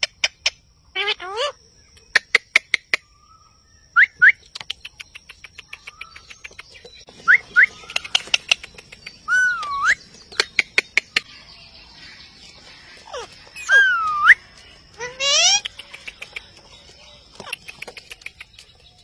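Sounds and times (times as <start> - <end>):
parakeets chirping: 0.0 - 3.5, 5.0 - 19.0.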